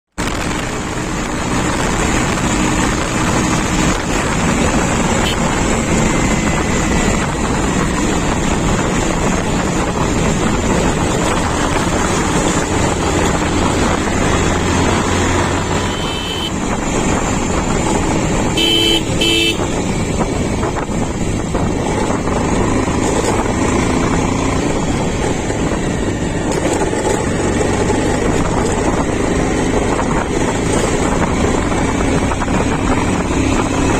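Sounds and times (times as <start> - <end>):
diesel engine running: 0.2 - 33.5.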